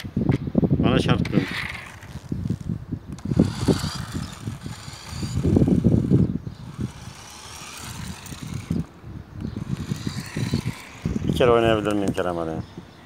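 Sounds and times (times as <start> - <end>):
toy car whirring: 1.0 - 12.4.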